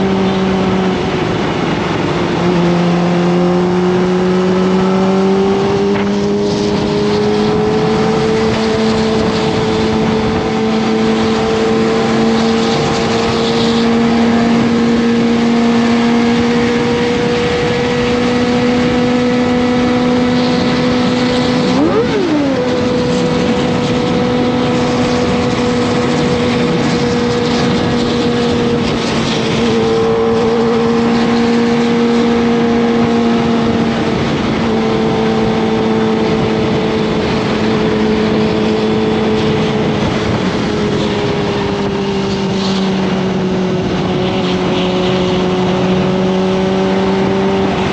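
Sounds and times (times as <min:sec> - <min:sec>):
motorcycle engine at high revs: 0:00.0 - 0:47.9.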